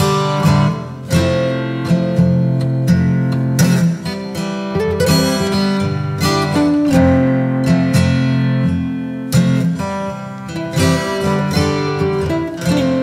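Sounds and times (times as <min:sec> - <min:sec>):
strummed acoustic guitar chords: 0:00.0 - 0:13.0.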